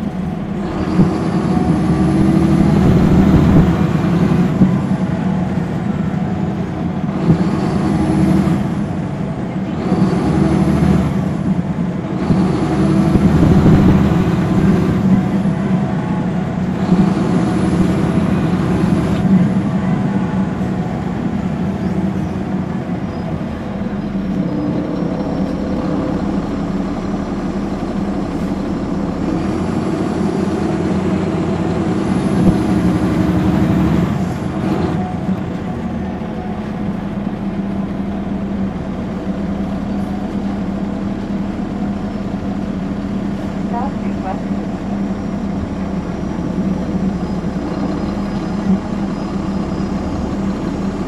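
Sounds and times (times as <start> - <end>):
bus diesel engine running: 0.0 - 51.0
high engine whine: 0.0 - 51.0.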